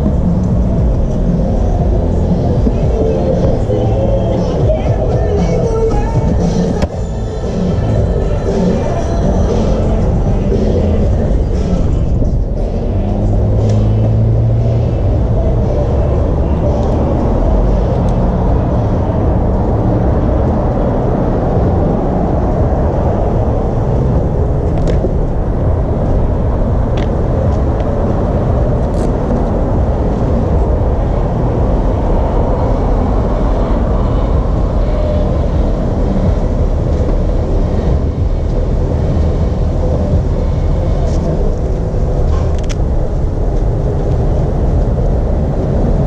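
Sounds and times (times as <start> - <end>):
wind buffeting microphone: 8.0 - 46.0.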